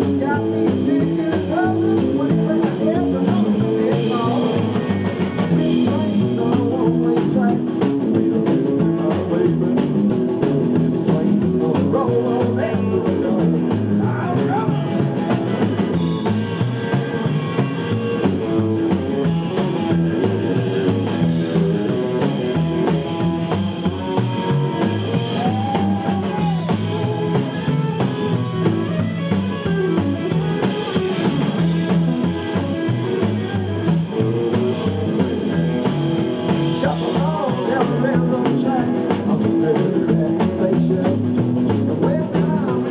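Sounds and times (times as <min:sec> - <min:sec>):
rockabilly band playing live: 0:00.0 - 0:42.9.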